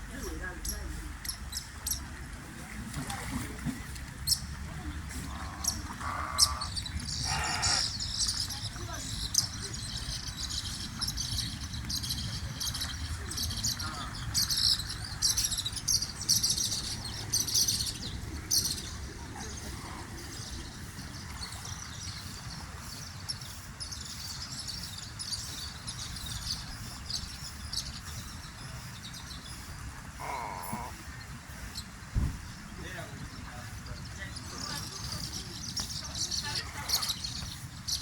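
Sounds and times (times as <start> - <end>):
small birds chirping: 0.1 - 2.2, 3.0 - 38.0.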